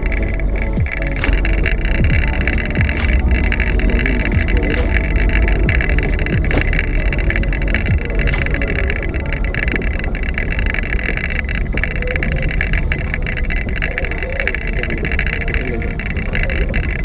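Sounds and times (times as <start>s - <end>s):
car engine rumble in cabin: 0.0s - 17.0s.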